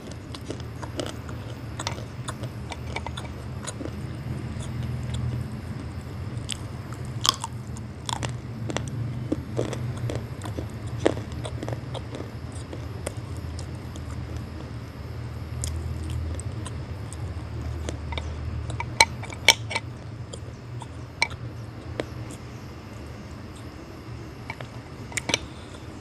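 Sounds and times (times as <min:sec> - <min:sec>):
close-up chewing: 0:00.0 - 0:26.0
low hum: 0:00.0 - 0:26.0.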